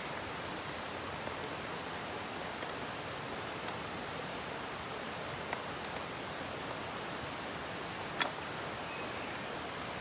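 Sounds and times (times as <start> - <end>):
steady rushing hiss: 0.0 - 10.0.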